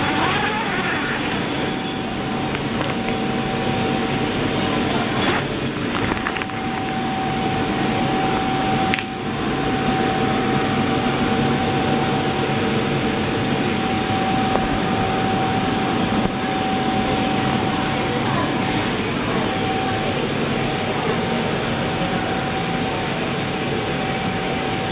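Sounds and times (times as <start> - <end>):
electric air blower whining: 0.0 - 24.8.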